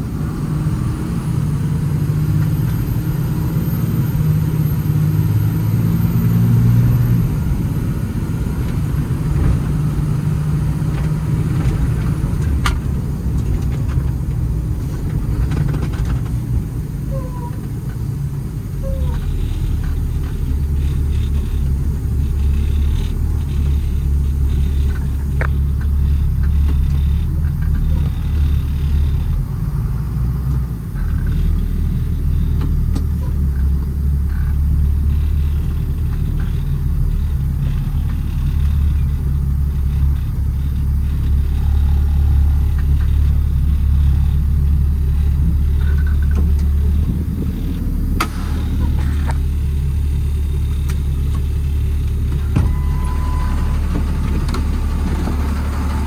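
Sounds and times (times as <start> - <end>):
diesel truck engine rumble: 0.0 - 56.0
road noise: 0.0 - 56.0.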